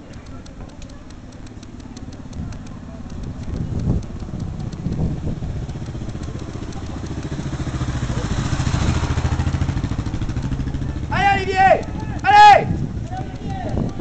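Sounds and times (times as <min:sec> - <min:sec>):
motorcycle engine passing by: 0:01.8 - 0:14.0.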